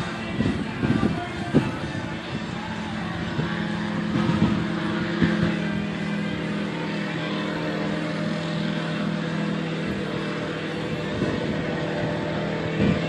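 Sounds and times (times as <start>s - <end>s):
gyroplane engine and propeller: 0.0s - 13.0s.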